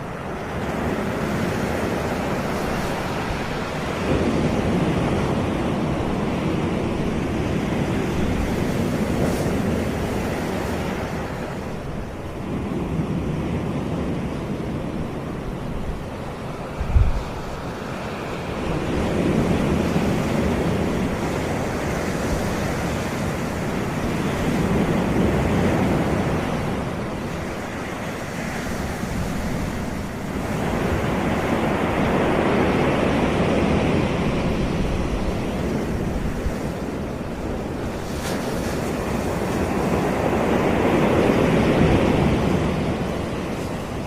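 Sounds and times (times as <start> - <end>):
sea waves breaking on beach: 0.0 - 44.0.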